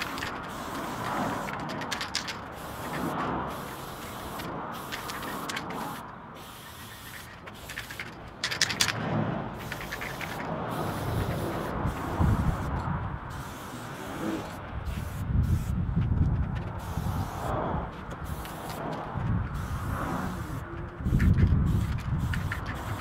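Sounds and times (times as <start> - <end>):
spray can ball rattling: 0.0 - 9.0, 9.6 - 15.7, 16.3 - 17.4, 18.1 - 23.0
spray can hissing: 0.0 - 9.0, 9.6 - 15.8, 16.7 - 23.0.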